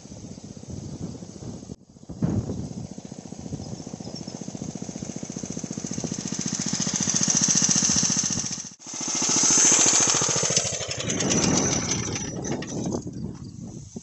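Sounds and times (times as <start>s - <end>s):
go-kart engine running: 2.0s - 13.2s.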